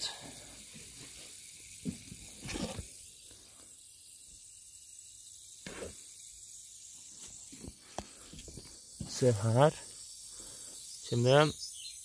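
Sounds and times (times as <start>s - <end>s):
hose water hissing: 0.0s - 12.0s.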